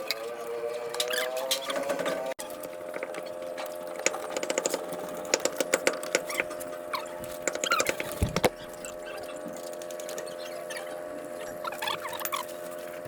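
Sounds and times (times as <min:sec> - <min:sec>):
steady hum: 0:02.4 - 0:13.0.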